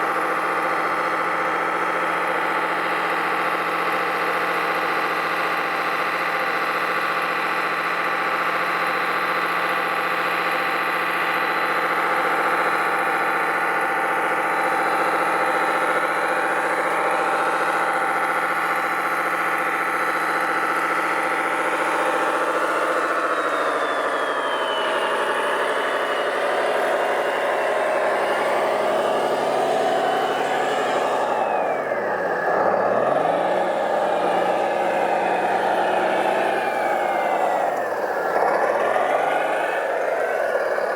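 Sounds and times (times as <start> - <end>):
radio-controlled truck droning: 0.0 - 40.9.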